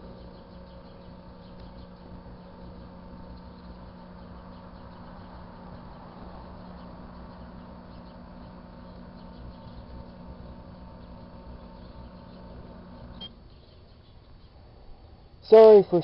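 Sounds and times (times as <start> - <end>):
microwave oven humming: 0.0 - 13.4.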